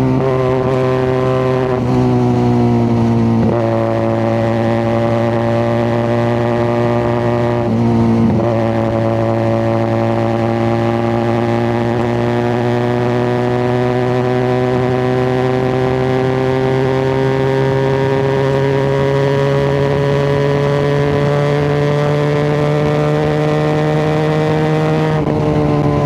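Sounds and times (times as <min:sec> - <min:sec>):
motorcycle engine rising in pitch: 0:00.0 - 0:26.0.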